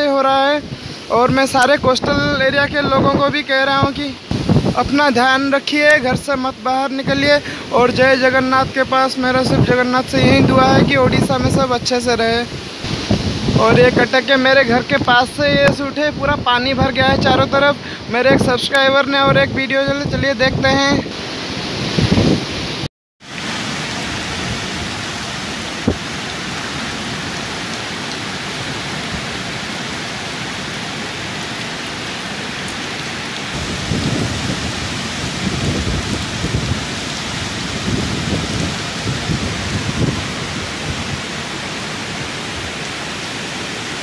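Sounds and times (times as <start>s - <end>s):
heavy rain pouring: 0.0s - 44.0s
wind gusts hitting microphone: 0.6s - 27.3s, 33.2s - 43.9s.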